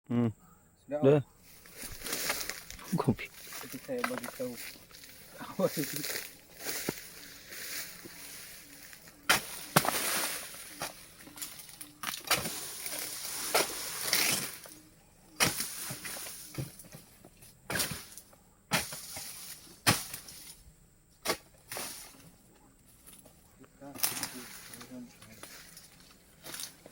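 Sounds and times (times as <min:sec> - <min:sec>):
fronds cracking and thudding: 0:01.5 - 0:20.6, 0:21.2 - 0:22.3, 0:22.9 - 0:26.9
leafy rustling and crashing: 0:01.5 - 0:20.6, 0:21.3 - 0:22.3, 0:23.9 - 0:26.9.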